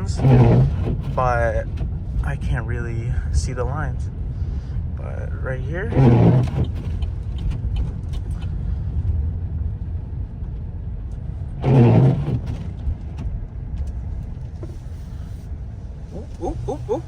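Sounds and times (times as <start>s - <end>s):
in-cab road and engine rumble: 0.0s - 17.0s.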